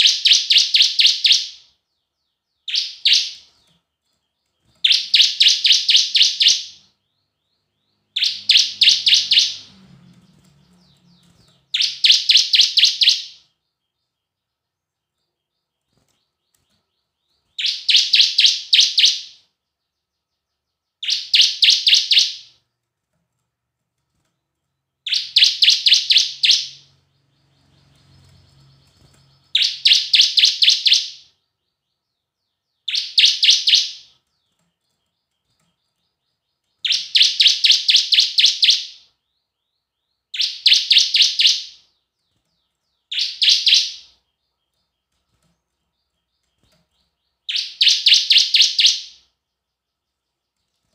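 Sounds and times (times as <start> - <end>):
bird singing high rapid notes: 0.0 - 22.6, 24.8 - 50.9.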